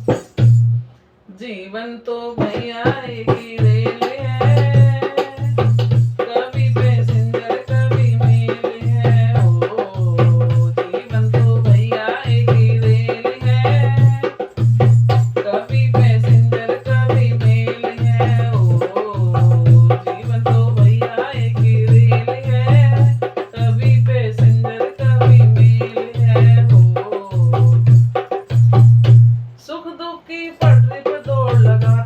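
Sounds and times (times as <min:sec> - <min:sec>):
shaker rattle: 0:00.0 - 0:00.7, 0:03.2 - 0:29.2, 0:30.6 - 0:32.0
hand drum beat: 0:00.0 - 0:00.8, 0:02.4 - 0:29.4, 0:30.6 - 0:32.0
person singing devotional song: 0:01.3 - 0:28.6, 0:29.6 - 0:32.0.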